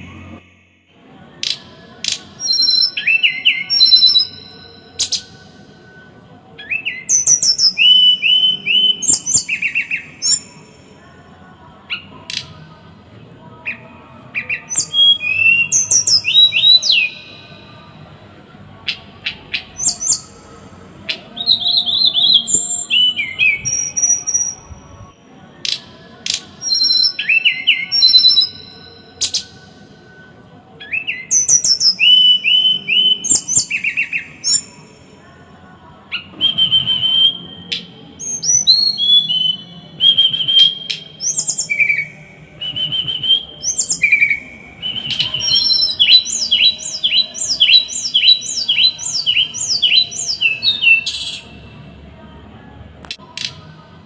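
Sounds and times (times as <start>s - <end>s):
small songbird singing: 1.4s - 5.6s, 6.6s - 11.2s, 13.5s - 17.9s, 18.8s - 29.7s, 30.8s - 35.1s, 36.1s - 51.7s.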